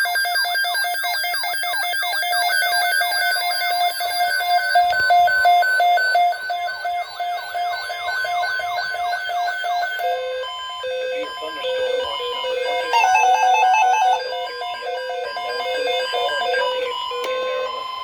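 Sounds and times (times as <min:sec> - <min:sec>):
rapidly pulsing electronic beeps: 0:00.0 - 0:18.0
warbling siren-like tone: 0:02.4 - 0:18.0.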